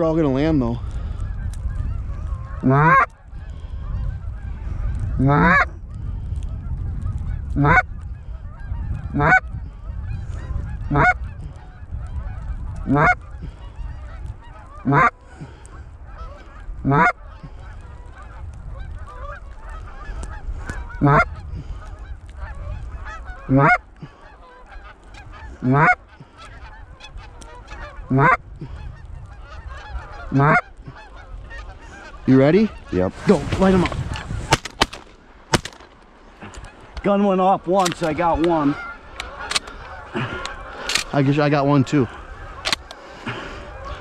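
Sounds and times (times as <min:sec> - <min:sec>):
distant flock of geese calling: 0:00.0 - 0:44.0
low wind rumble: 0:00.0 - 0:44.0
close goose honks: 0:01.0 - 0:44.0.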